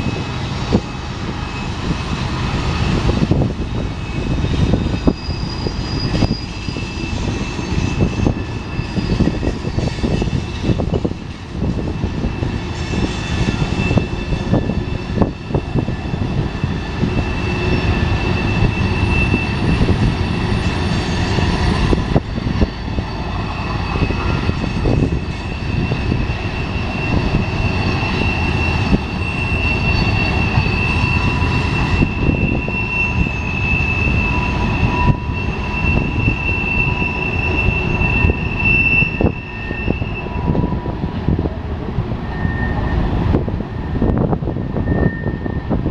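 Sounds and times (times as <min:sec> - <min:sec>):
high-pitched wheel squeal: 0:00.0 - 0:41.0, 0:42.2 - 0:45.9
freight train rumbling: 0:00.0 - 0:45.9.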